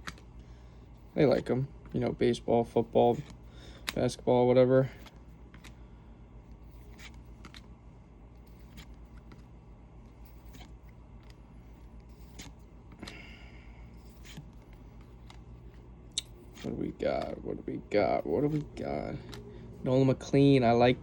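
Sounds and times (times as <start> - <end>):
trading cards rustling and clicking: 0.0 - 5.9, 6.5 - 21.0
low steady hum: 0.0 - 21.0.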